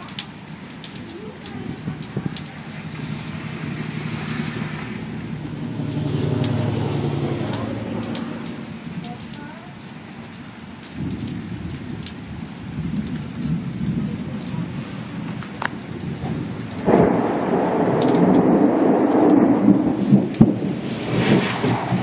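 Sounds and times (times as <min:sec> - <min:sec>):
thunder rumbling: 0:00.0 - 0:09.6, 0:10.9 - 0:22.0
rain falling: 0:00.0 - 0:22.0.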